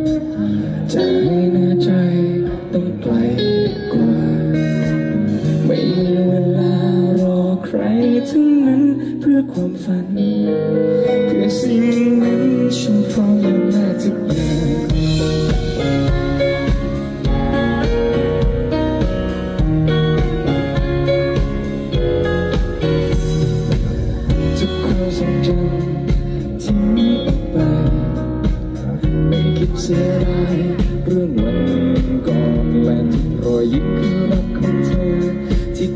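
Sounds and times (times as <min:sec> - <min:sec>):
acoustic guitar: 0:00.0 - 0:35.9
bass: 0:00.0 - 0:35.9
man singing a ballad: 0:00.0 - 0:35.9.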